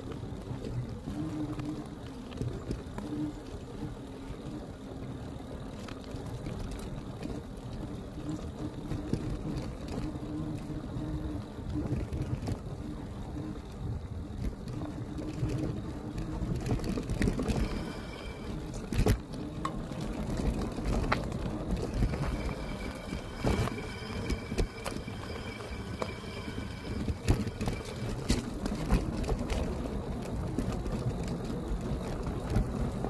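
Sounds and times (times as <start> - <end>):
electric bike motor whine: 0.0 - 33.0
tyres rumbling on rough ground: 0.0 - 33.0.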